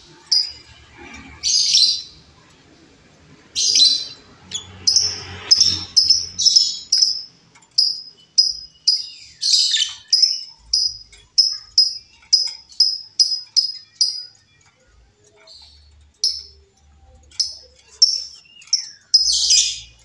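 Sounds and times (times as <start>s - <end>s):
bird chirping: 0.0s - 2.6s, 3.4s - 20.0s.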